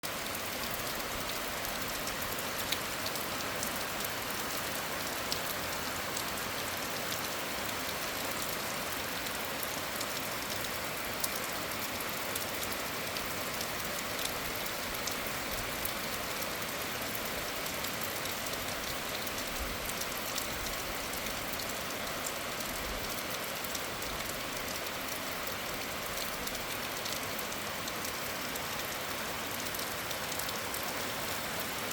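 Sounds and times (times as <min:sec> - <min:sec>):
steady rain hiss: 0:00.0 - 0:31.9.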